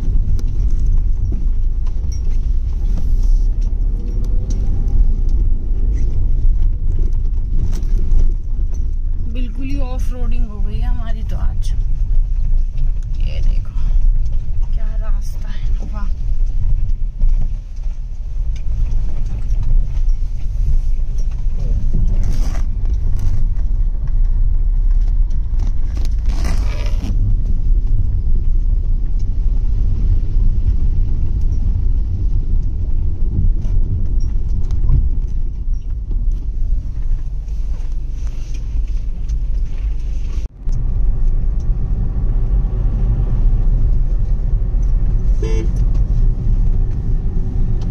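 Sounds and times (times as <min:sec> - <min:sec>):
car rumbling on rough track: 0:00.0 - 0:47.9.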